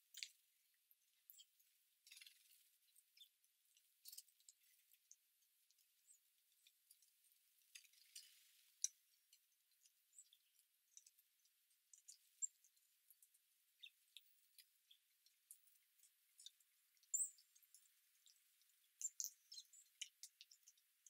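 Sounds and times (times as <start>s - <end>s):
small birds ticking and chirping: 0.0s - 21.0s.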